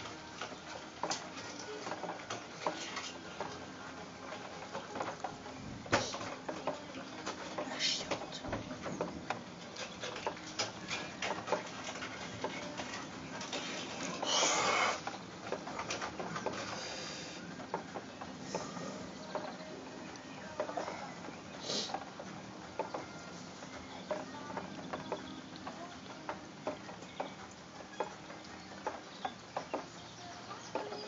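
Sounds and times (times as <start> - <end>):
rain pattering on a window: 0.0 - 31.0.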